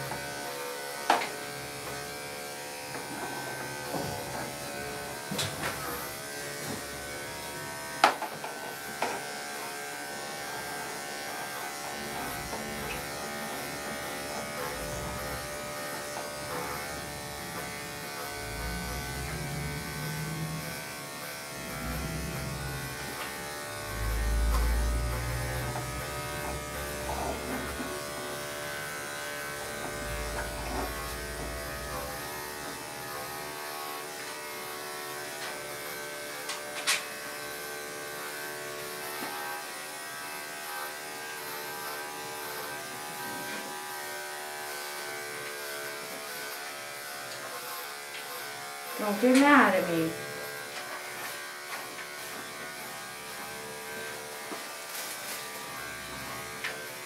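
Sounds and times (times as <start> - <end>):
electric clippers buzzing: 0.0 - 57.0.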